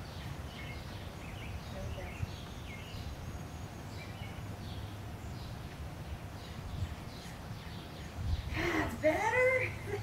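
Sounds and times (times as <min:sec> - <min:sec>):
bird chirps: 0:00.0 - 0:08.5.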